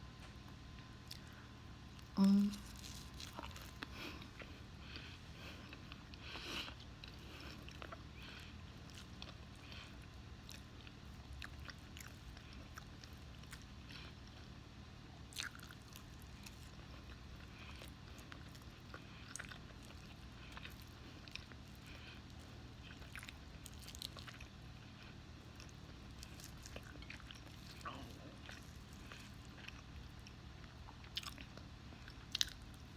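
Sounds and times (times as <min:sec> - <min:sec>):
person chewing food: 0:00.8 - 0:32.9.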